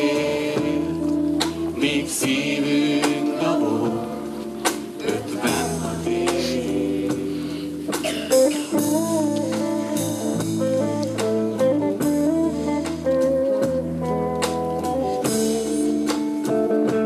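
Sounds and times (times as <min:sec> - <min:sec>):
instrumental pop-rock music: 0:00.0 - 0:17.0.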